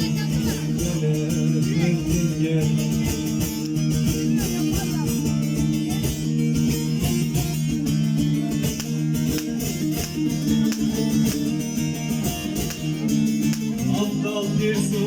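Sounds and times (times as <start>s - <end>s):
plucked lute instrumental: 0.0s - 15.0s.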